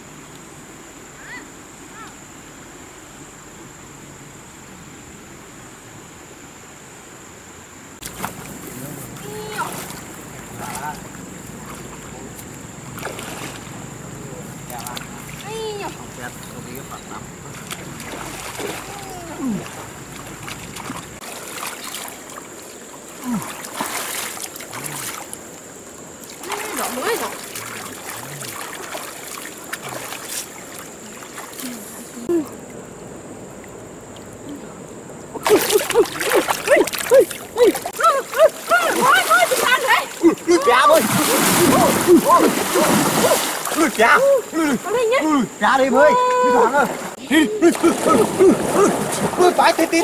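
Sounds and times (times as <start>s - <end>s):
insects droning: 0.0s - 50.0s
running stream water: 0.0s - 50.0s
water splashing and sloshing: 8.0s - 34.6s, 35.2s - 50.0s.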